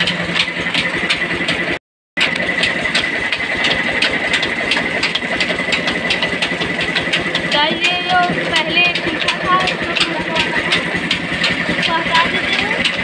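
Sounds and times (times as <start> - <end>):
flour mill whining: 0.0 - 13.0
rapid mechanical ticking: 0.0 - 13.0.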